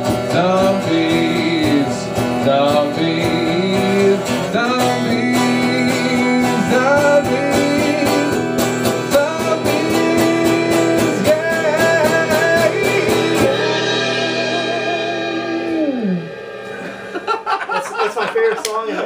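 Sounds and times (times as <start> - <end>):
electric guitar: 0.0 - 18.0
drum beat: 0.0 - 18.9.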